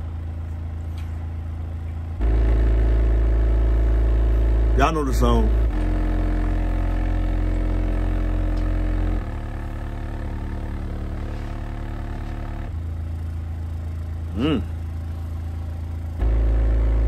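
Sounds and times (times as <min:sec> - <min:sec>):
subwoofer playing deep bass notes: 0:01.7 - 0:17.0.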